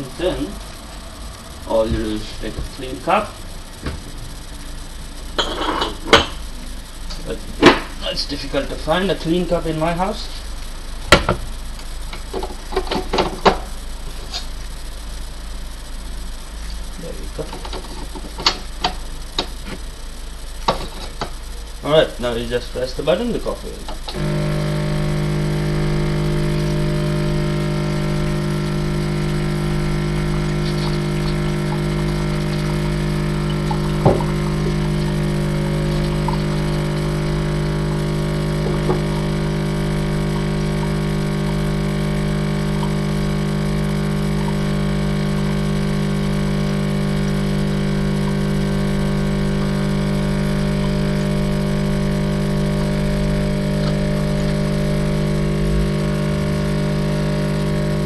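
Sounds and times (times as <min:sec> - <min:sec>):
coffee machine pump humming: 0:00.0 - 0:58.0.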